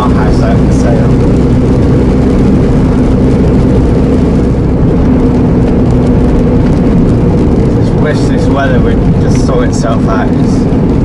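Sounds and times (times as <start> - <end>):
lorry diesel engine drone: 0.0 - 11.0
road noise: 0.0 - 11.0.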